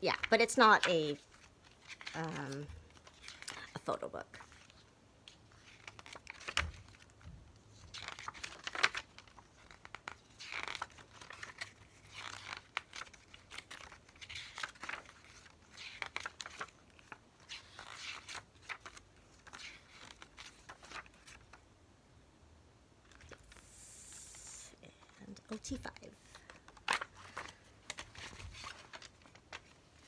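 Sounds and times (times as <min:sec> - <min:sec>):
paper pages turning: 0:00.1 - 0:21.6, 0:23.0 - 0:30.0.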